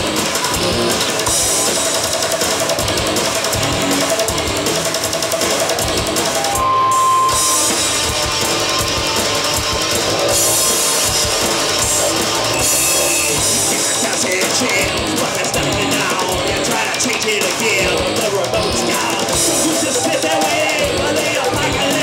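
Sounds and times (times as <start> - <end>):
bass guitar: 0.0 - 22.0
drums: 0.0 - 22.0
electric guitar: 0.0 - 22.0.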